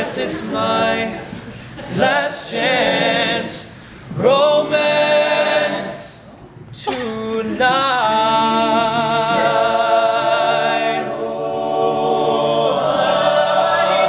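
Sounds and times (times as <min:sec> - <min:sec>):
male group singing a cappella: 0:00.0 - 0:14.0.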